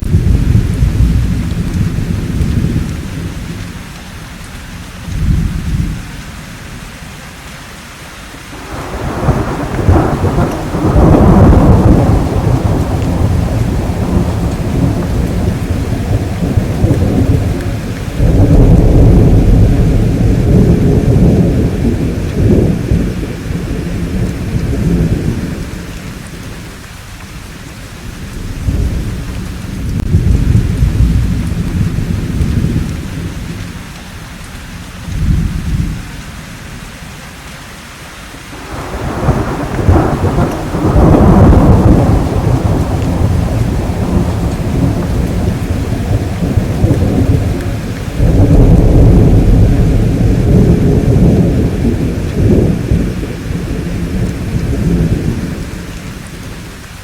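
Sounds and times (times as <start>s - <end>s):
rolling thunder: 0.0s - 6.8s, 8.6s - 36.9s, 38.6s - 57.0s
steady rainfall: 0.0s - 57.0s.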